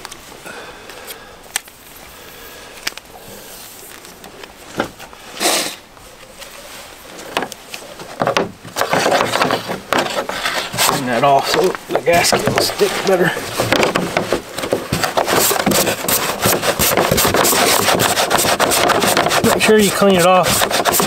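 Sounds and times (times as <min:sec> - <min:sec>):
cord rustling and rubbing: 0:02.8 - 0:21.0.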